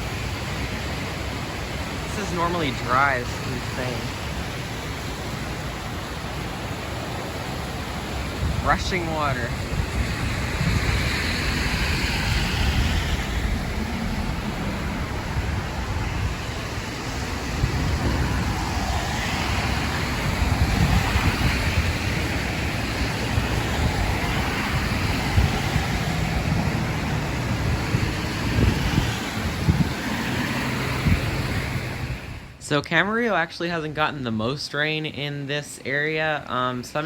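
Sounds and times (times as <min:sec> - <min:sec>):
wind rumble on microphone: 0:00.0 - 0:32.6
floodwater rushing in a creek: 0:00.0 - 0:37.0.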